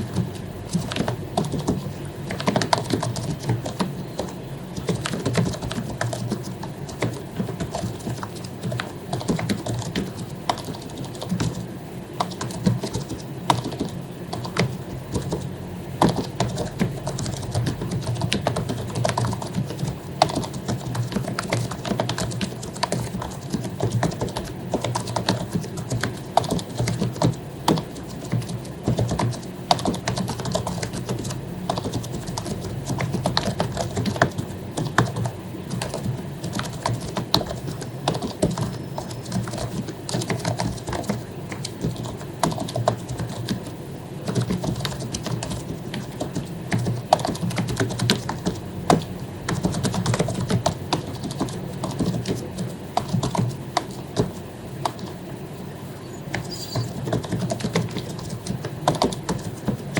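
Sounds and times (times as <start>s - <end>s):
fast typing on keyboard: 0.0s - 59.9s
low steady hum: 0.0s - 59.9s.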